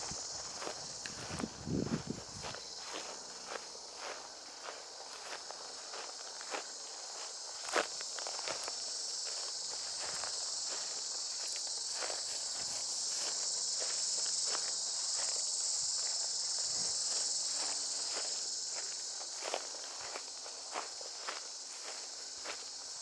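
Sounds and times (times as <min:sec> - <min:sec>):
footsteps walking: 0:00.0 - 0:23.0
insect chorus buzzing: 0:00.0 - 0:23.0.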